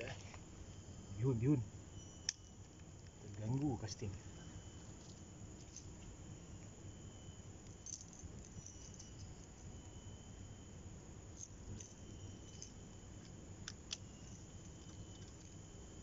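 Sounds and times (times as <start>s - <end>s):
faint high insect buzz: 0.0s - 16.0s.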